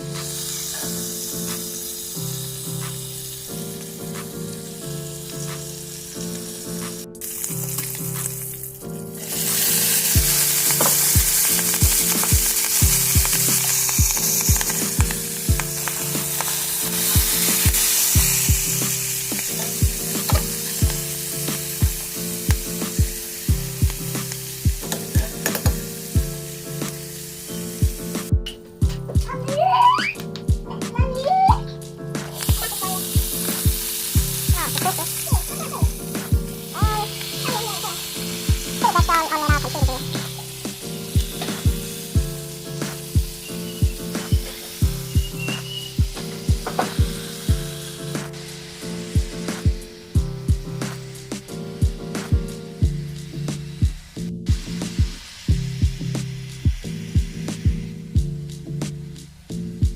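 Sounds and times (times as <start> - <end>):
beef sizzling in a pan: 0.0 - 28.4, 32.0 - 59.9
soft background music: 0.0 - 59.9.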